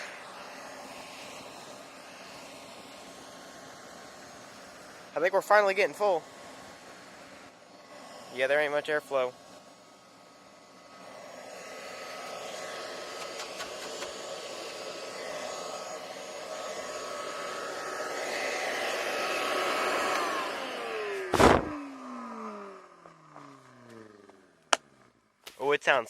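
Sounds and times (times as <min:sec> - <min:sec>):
shop vac running: 0:00.0 - 0:24.9
motor winding down whine: 0:00.0 - 0:25.4.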